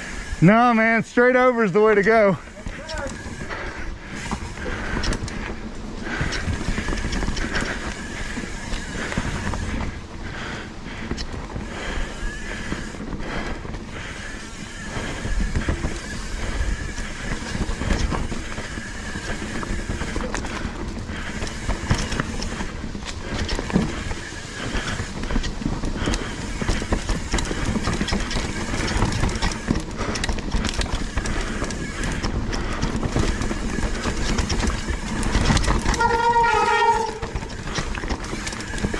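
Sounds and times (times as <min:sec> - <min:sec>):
bike frame and chain rattling: 0:00.0 - 0:38.9
tyres and wind rumble: 0:00.0 - 0:38.9.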